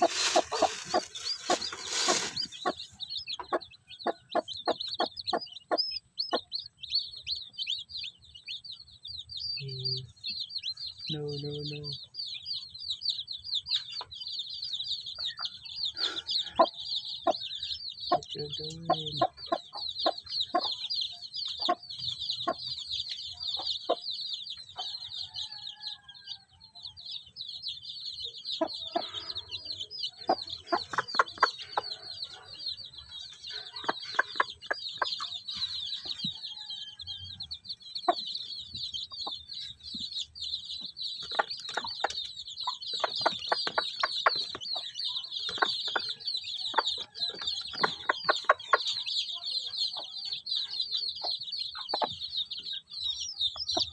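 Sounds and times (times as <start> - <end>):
hen clucking: 0.0 - 6.9, 13.8 - 25.6, 28.4 - 53.9
chicks peeping: 0.0 - 53.9.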